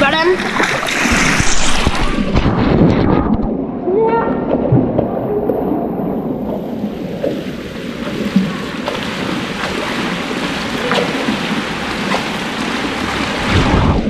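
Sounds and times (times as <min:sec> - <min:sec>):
pool water splashing: 0:00.0 - 0:01.5, 0:03.6 - 0:14.0.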